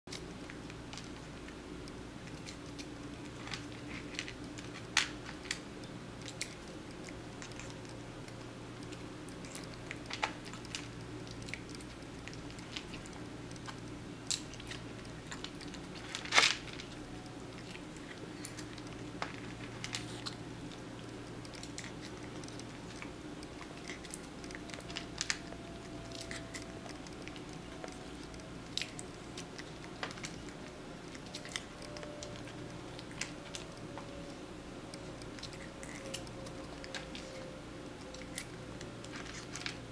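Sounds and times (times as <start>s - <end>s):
cat chewing crunchy kibble: 0.1s - 39.9s
steady low hum: 0.1s - 39.9s.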